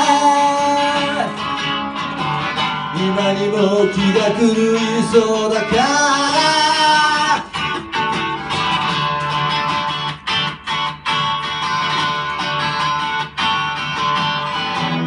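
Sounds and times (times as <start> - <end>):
guitar strumming: 0.0 - 15.0.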